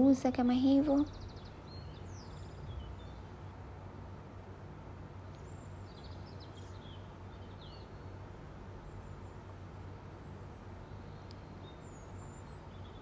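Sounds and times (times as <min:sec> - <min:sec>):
bird chirping: 0:00.0 - 0:03.4, 0:05.2 - 0:09.5, 0:10.1 - 0:13.0.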